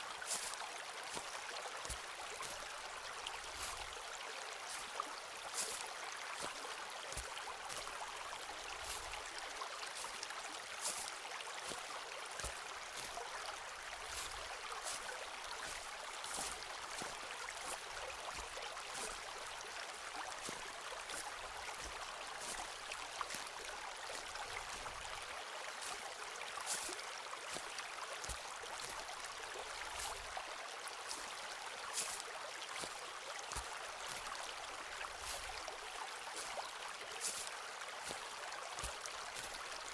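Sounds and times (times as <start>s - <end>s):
footsteps on forest path: 0.0s - 39.9s
stream rushing: 0.0s - 39.9s.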